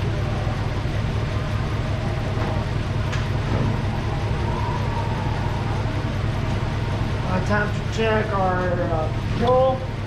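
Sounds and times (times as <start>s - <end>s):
car engine idling and misfiring: 0.0s - 10.0s.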